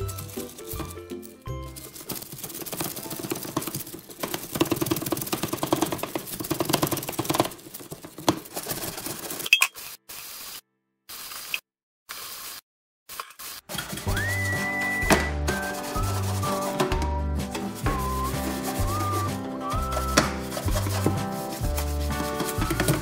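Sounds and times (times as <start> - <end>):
scrub brush scraping metal sink: 1.7 - 10.6, 11.2 - 23.0.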